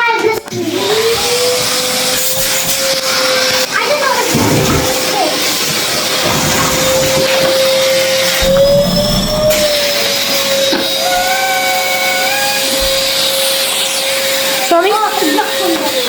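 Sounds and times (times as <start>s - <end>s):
vacuum cleaner whine: 0.3s - 16.0s
suction hiss: 1.4s - 15.6s.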